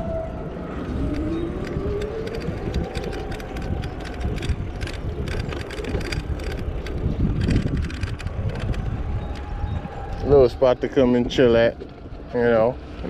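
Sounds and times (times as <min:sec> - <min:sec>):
siren wailing: 0:00.0 - 0:12.8
low rumble of e-bike ride: 0:00.0 - 0:13.0
wind buffeting microphone: 0:00.0 - 0:13.0.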